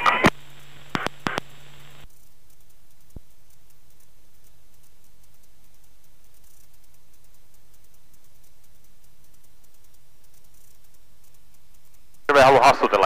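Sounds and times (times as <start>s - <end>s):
radio clicks: 0.0s - 12.6s
radio hiss with low hum: 0.0s - 13.0s
light ticks: 0.8s - 12.9s.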